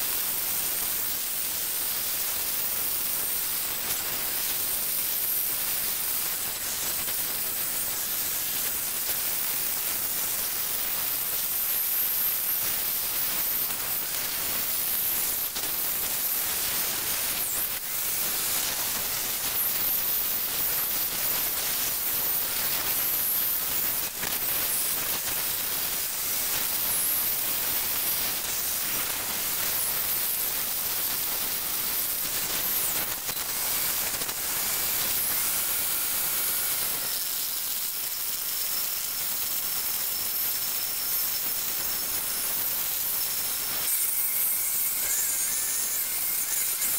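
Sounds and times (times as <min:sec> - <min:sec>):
angle grinder cutting metal: 0:03.2 - 0:46.9.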